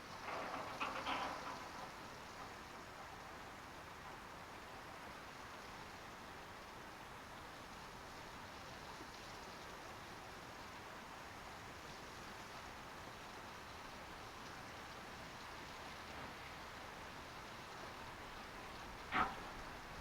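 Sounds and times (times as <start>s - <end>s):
steady hissing noise: 0.0s - 20.0s.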